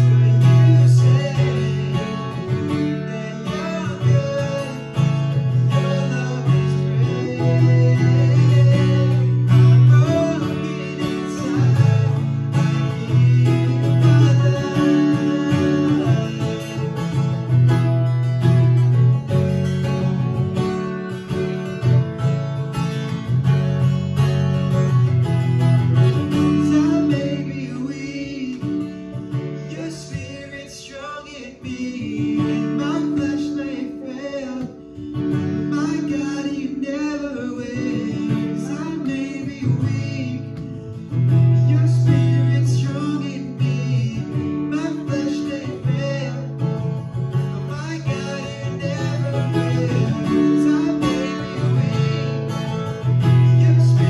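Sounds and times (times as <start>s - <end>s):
man singing: 0.0s - 20.0s, 24.8s - 54.0s
strummed acoustic guitar: 0.0s - 54.0s.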